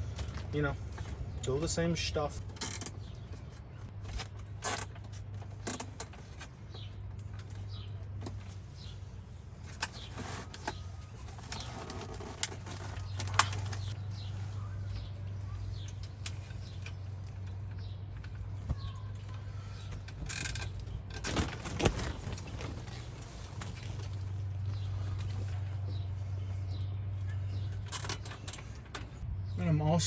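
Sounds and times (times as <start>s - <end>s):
birds chirping: 0.0s - 3.9s, 6.2s - 30.0s.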